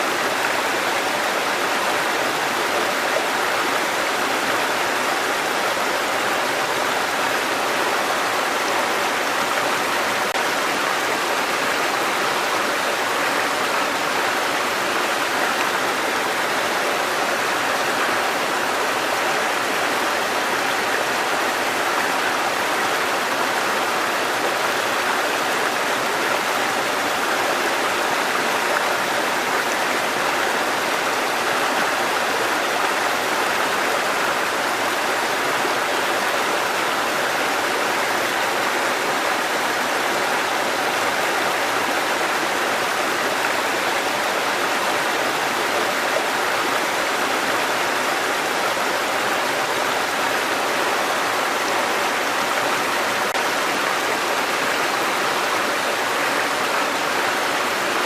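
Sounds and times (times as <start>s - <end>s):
stream water rushing over rocks: 0.0s - 58.0s.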